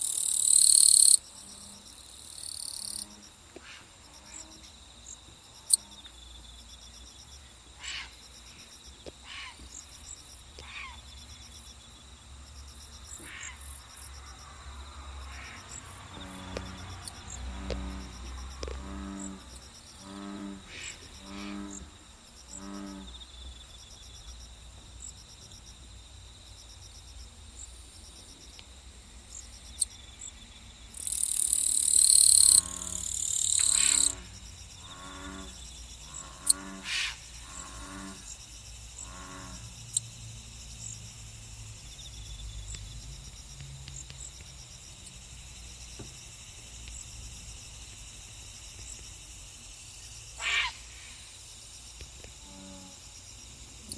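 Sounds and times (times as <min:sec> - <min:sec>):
high insect chirping: 0:00.0 - 0:53.9.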